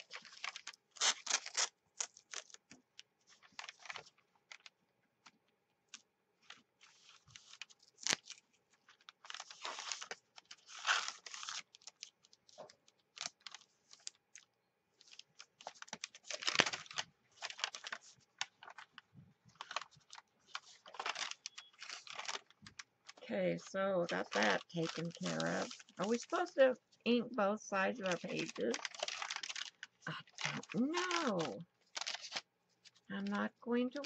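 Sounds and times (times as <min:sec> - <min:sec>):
paper rustling and crinkling: 0:00.0 - 0:26.8, 0:27.8 - 0:34.0.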